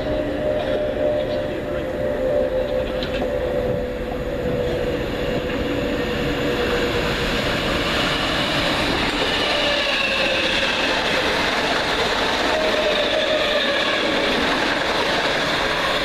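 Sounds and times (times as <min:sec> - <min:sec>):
electric train whine: 0:00.0 - 0:16.0
high whining tones: 0:00.0 - 0:16.0
train wheels rumbling on rail: 0:00.0 - 0:16.0.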